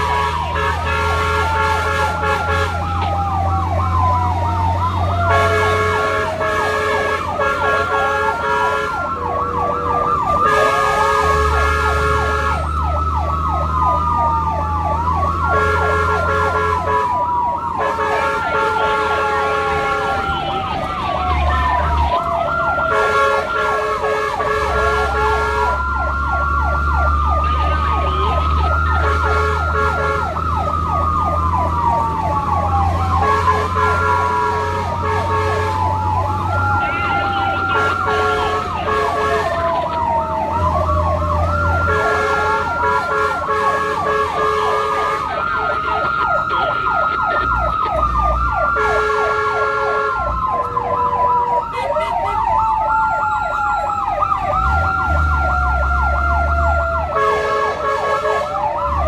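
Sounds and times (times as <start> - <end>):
electronic sirens wailing: 0.0 - 59.0
vehicle engine hum: 0.0 - 59.0.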